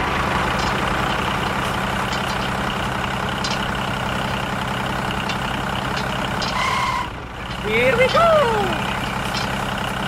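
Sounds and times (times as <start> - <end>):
heavy vehicle engine idling: 0.0 - 10.0.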